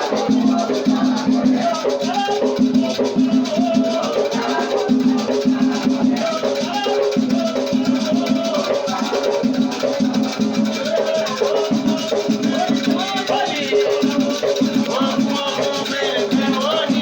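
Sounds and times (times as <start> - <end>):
drumming: 0.0 - 17.0
rattles shaking: 0.0 - 17.0
voices singing a chant: 0.0 - 17.0.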